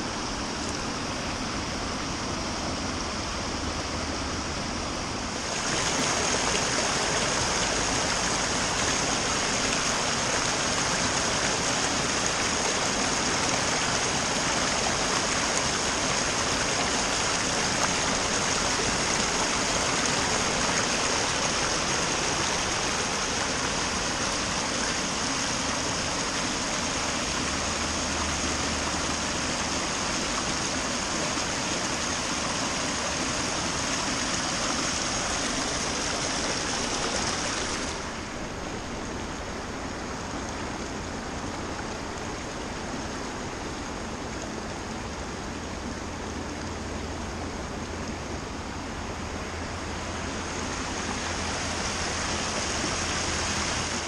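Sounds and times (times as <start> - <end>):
river rushing over weir: 0.0 - 54.0.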